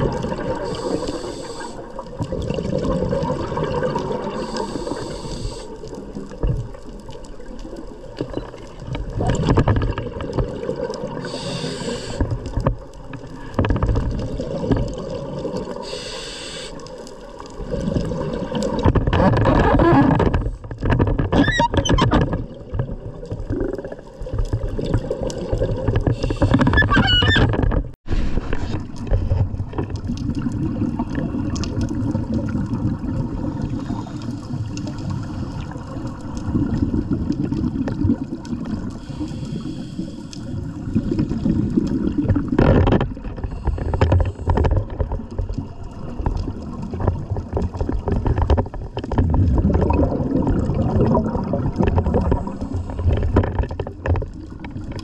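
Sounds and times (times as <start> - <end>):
exhaled bubbles gurgling underwater: 0.0 - 55.0.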